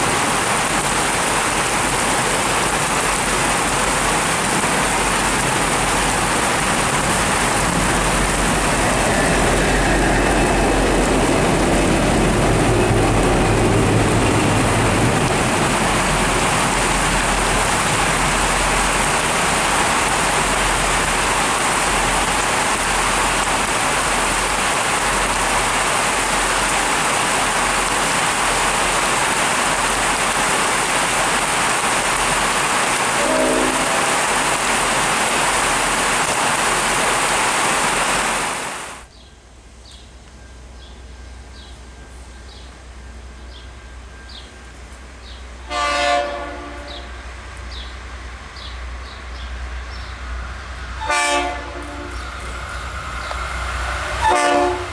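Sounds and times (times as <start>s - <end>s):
heavy rain pelting ground: 0.0s - 39.1s, 49.5s - 54.9s
diesel locomotive engines droning: 0.1s - 37.2s, 39.1s - 54.9s.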